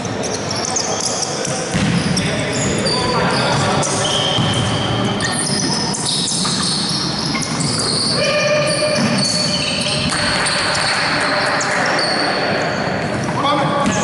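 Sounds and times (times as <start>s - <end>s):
sneakers squeaking on wooden court: 0.2s - 14.0s.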